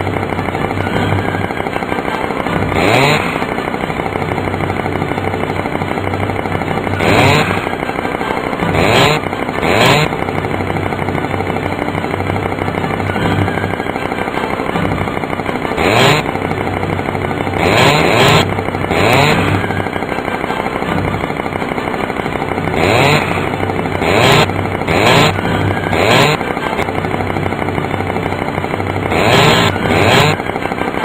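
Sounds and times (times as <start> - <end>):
chainsaw idling and revving: 0.0 - 31.0.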